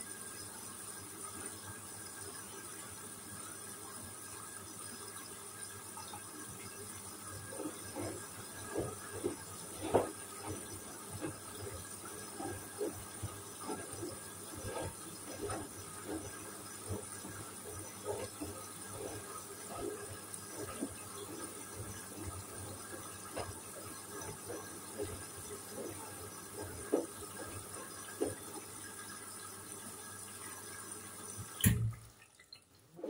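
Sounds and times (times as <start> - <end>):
washing machine sloshing laundry: 0.0 - 33.0.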